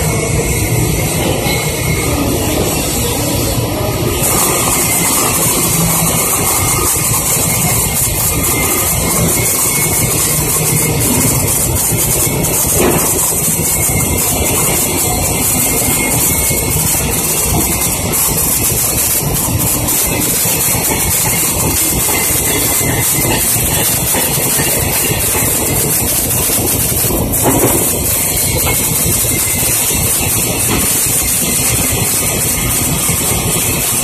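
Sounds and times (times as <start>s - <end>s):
welding arc crackling hiss: 2.0s - 34.0s.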